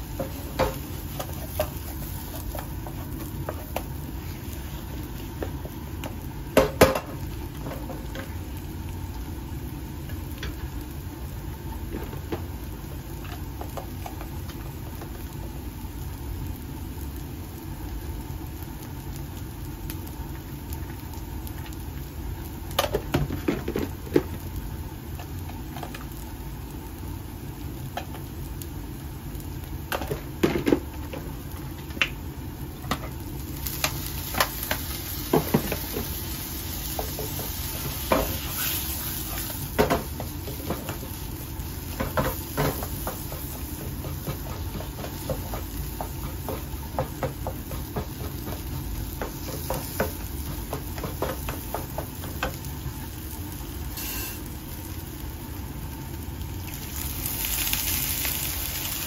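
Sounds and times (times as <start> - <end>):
bright sizzle of poured liquid: 0.0 - 23.1, 31.3 - 47.7, 48.7 - 59.0
patty frying in a pan: 0.0 - 59.0.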